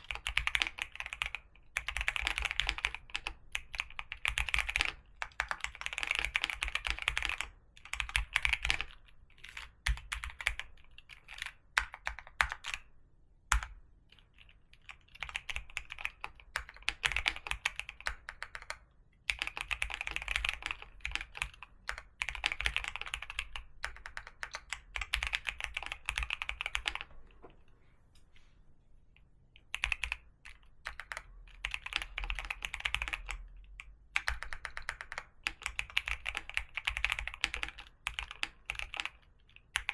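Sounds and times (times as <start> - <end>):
typing on computer keyboard: 0.0 - 12.9, 13.5 - 27.1, 29.6 - 39.9.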